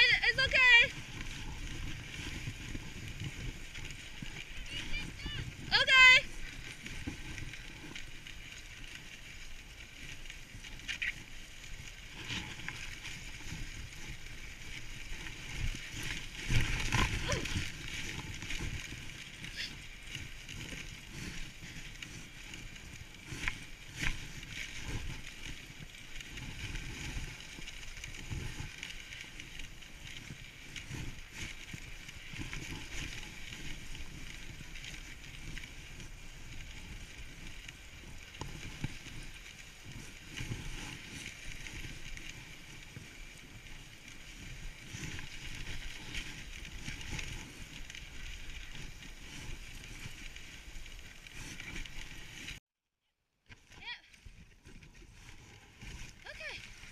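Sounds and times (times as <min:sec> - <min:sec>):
sled jolts: 0:00.0 - 0:52.6, 0:53.6 - 0:56.9
sled runners scraping on snow: 0:00.0 - 0:52.6, 0:53.5 - 0:56.9.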